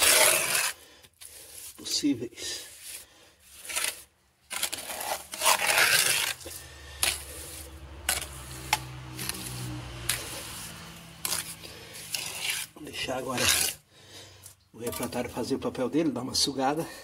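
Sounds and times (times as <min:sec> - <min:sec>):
trowel scraping mortar: 0:00.0 - 0:15.3.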